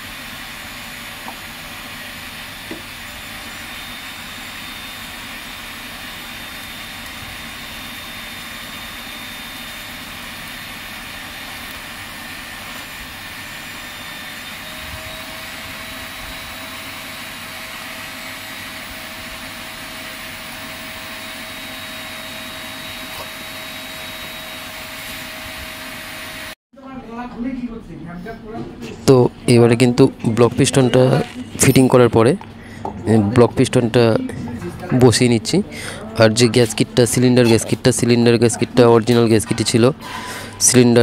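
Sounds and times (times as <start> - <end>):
machine blowing noise: 0.0 - 26.6, 29.0 - 41.0.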